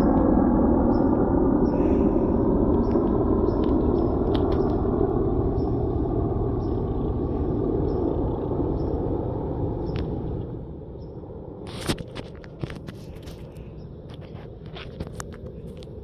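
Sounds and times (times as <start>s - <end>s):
helicopter flying past: 0.0s - 16.0s.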